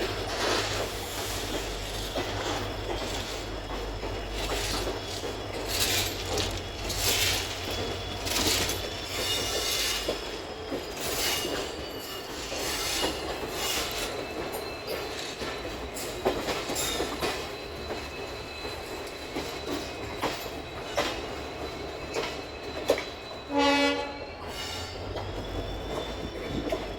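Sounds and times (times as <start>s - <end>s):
train rumbling on rails: 0.0s - 26.9s
wheels squealing on rails: 0.0s - 26.9s.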